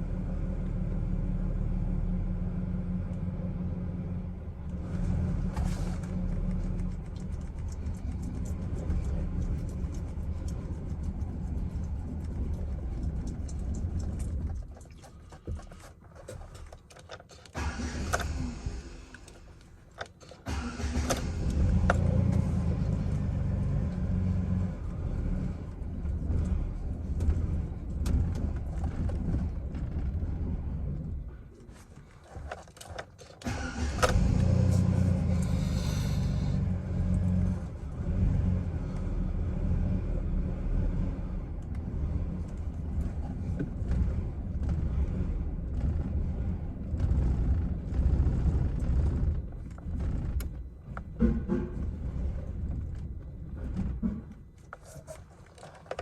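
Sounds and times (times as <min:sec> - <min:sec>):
pickup engine low sound: 0:00.0 - 0:16.9, 0:17.5 - 0:32.6, 0:33.4 - 0:56.0.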